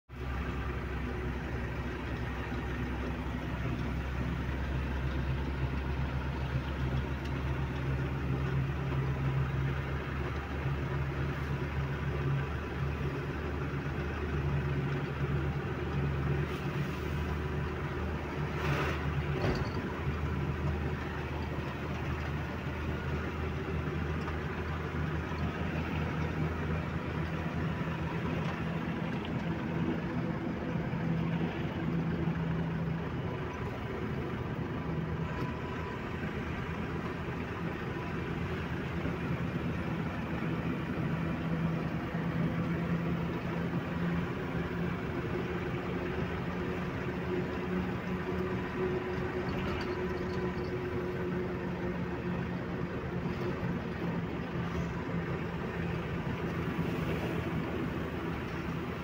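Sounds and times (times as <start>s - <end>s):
truck diesel engine running: 0.1s - 59.0s.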